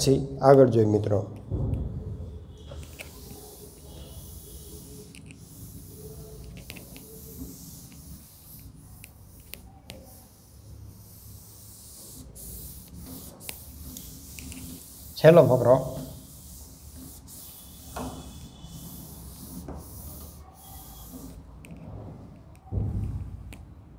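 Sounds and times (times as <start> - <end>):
cloth rubbing on blackboard: 2.6 - 22.2.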